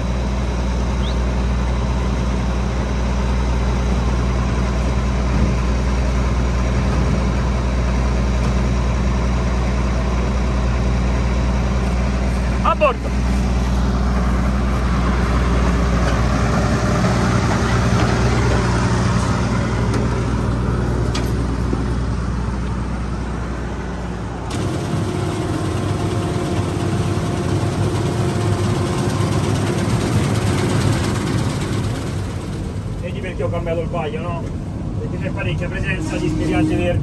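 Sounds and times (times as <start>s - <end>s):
combine harvester engine humming: 0.0s - 37.0s.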